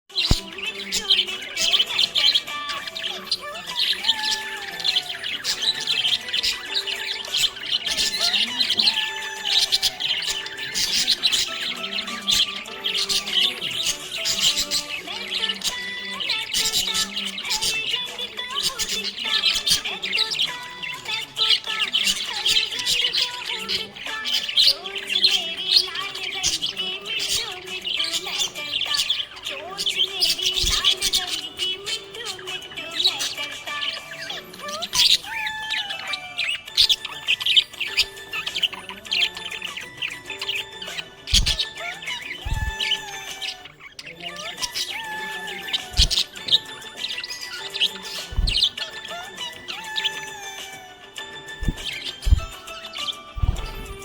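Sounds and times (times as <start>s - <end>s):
parrots chirping and chattering: 0.0s - 54.0s.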